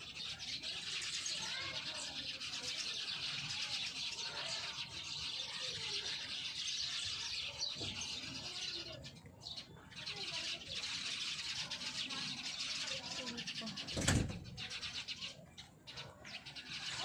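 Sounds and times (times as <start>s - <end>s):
chorus of birds chirping: 0.0s - 17.0s.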